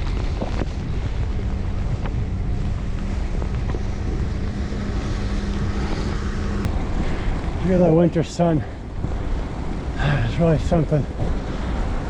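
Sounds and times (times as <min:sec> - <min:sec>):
steady low hum: 0:00.0 - 0:12.0
wind rushing over microphone: 0:00.0 - 0:12.0.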